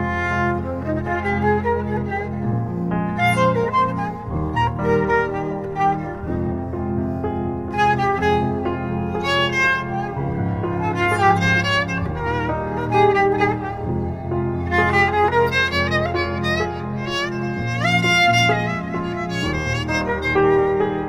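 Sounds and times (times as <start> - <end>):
bowed string melody with vibrato: 0.0 - 21.0
sustained low notes: 0.0 - 21.0.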